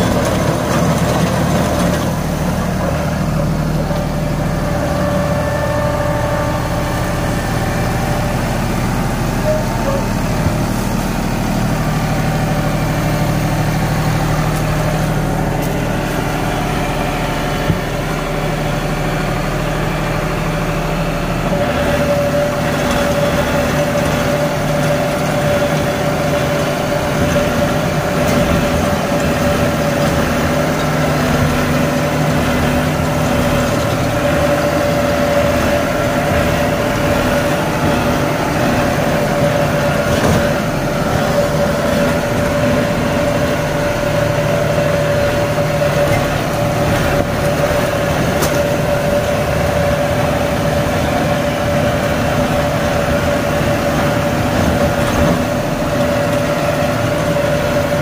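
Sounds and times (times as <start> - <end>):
rotavator churning soil: 0.0 - 58.0
tractor diesel engine running: 0.0 - 58.0.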